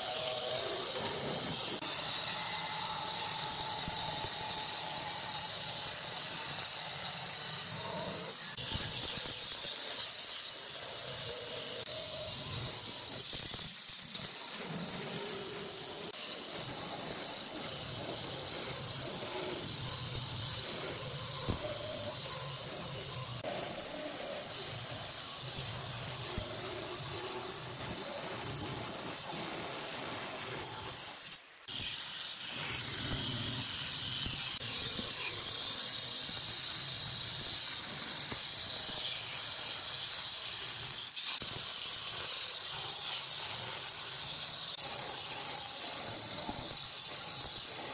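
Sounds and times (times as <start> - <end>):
stone cutter grinding granite: 0.0 - 47.9.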